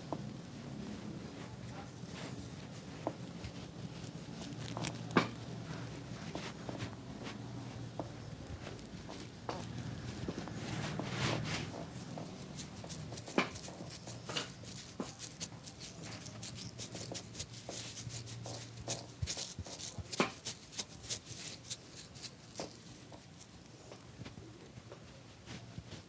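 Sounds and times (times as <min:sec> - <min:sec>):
hands patting on skin: 0:01.4 - 0:24.5.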